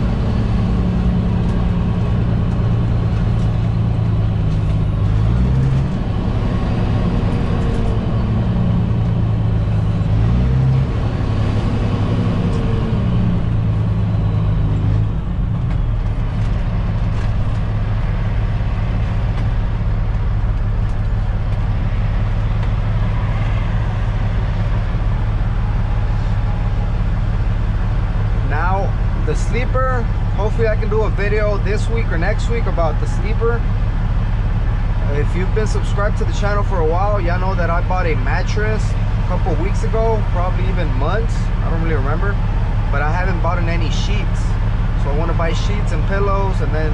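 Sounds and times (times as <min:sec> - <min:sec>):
truck diesel engine shifting gears: 0:00.0 - 0:46.9.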